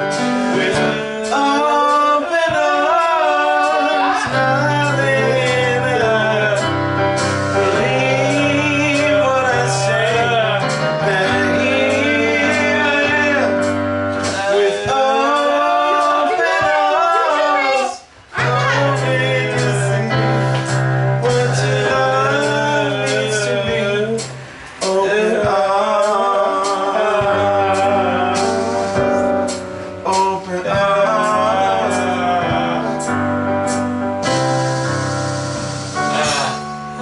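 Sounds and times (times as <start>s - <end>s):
music with long low notes: 0.0s - 16.9s, 18.4s - 37.0s
man singing: 0.0s - 33.1s, 36.0s - 37.0s.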